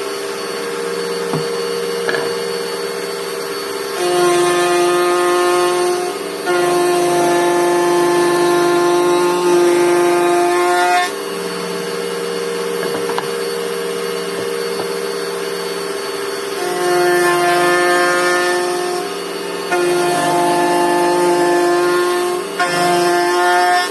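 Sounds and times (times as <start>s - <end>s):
wood router whining: 0.0s - 23.9s.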